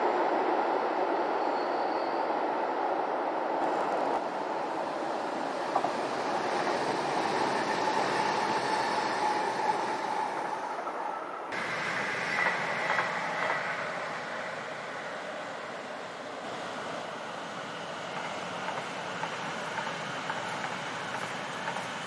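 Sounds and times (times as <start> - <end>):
diesel railcar passing: 0.0 - 22.0
electric train passing: 0.0 - 22.0.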